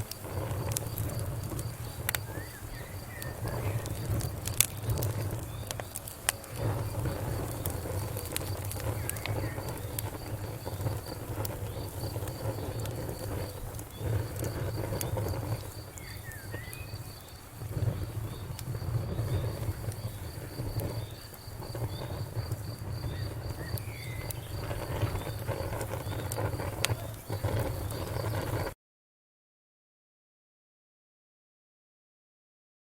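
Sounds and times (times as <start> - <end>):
cricket chirping: 0.0 - 28.7
wood fire crackling: 0.0 - 28.8.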